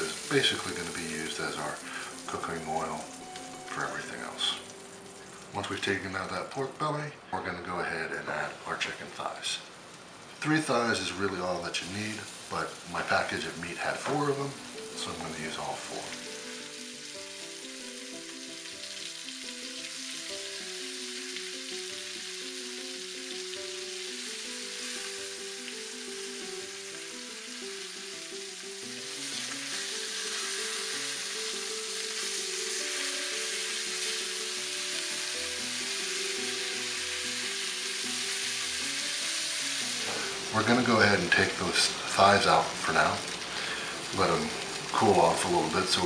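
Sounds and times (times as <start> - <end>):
chicken sizzling in a skillet: 0.0 - 6.2, 9.8 - 46.0
music: 0.0 - 9.3, 10.4 - 46.0.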